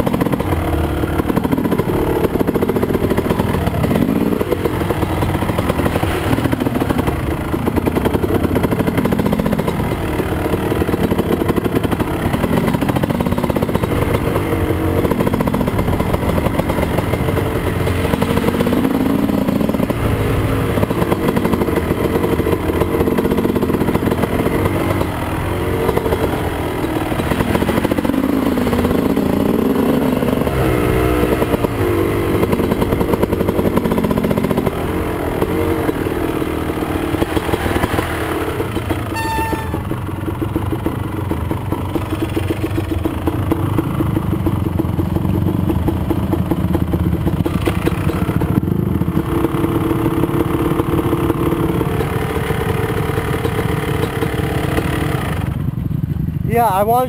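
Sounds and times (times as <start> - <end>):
dirt bike engine revving: 0.0 - 55.6.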